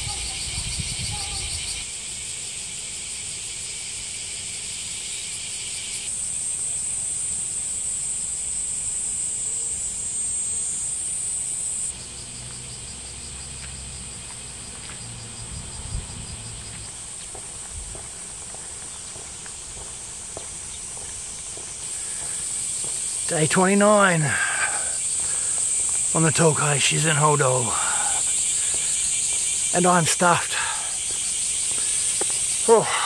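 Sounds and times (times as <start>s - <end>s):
high-pitched insect chorus: 0.0s - 33.0s.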